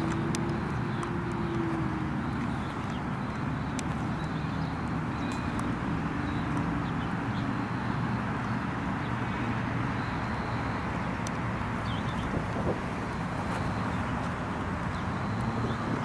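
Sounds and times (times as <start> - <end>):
low outdoor background noise: 0.0 - 16.0.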